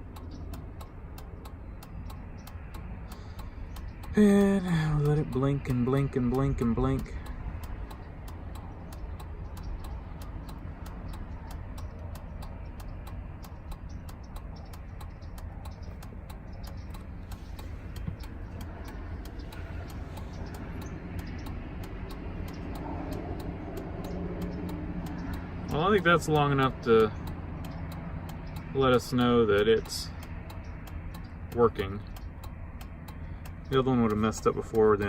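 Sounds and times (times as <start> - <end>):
steady low hum: 0.0 - 35.0
turn signal flasher clicking: 0.0 - 35.0.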